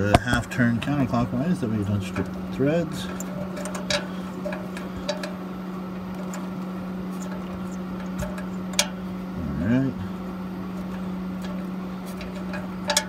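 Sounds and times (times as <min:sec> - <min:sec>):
steady low hum: 0:00.0 - 0:13.0
sensor clicking and scraping in port: 0:00.1 - 0:09.4, 0:10.2 - 0:13.0.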